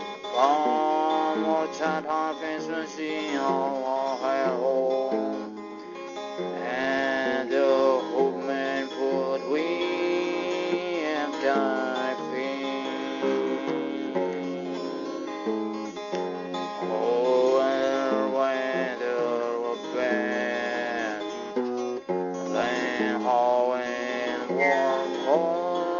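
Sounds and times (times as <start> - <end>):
acoustic guitar chords: 0.0 - 25.9
sliding wavering melody line: 0.0 - 25.9.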